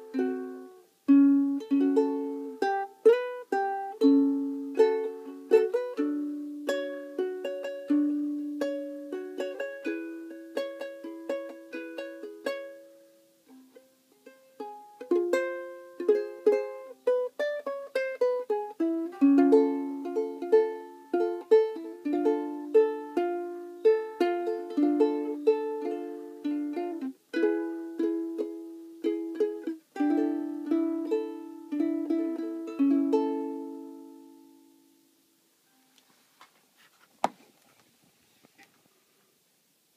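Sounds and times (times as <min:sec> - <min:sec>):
ukulele playing: 0:00.0 - 0:36.0.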